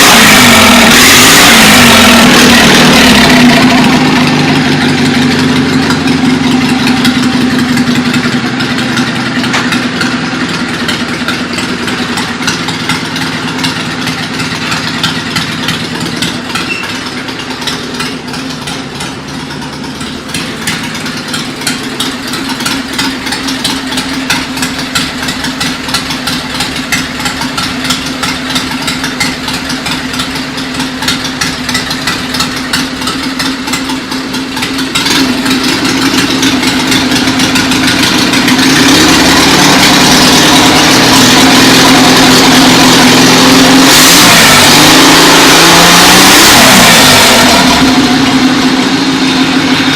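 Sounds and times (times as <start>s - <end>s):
tractor engine idling: 0.0s - 49.9s.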